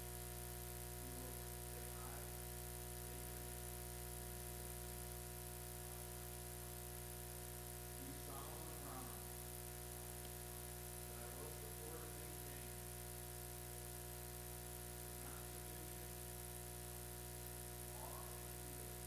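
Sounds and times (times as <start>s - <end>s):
electrical hum and buzz: 0.0s - 19.0s.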